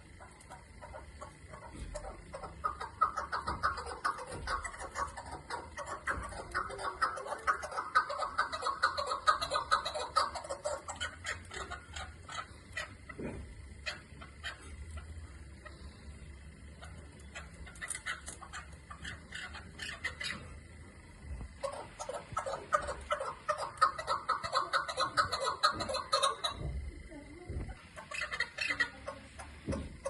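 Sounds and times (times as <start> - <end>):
partridge clucking call: 0.0 - 16.0, 16.6 - 26.8, 27.7 - 30.0.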